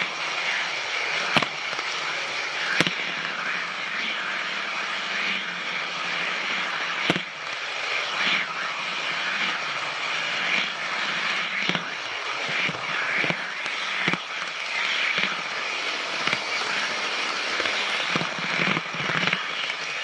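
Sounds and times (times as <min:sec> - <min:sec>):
model train wheels rattling: 0:00.0 - 0:20.0.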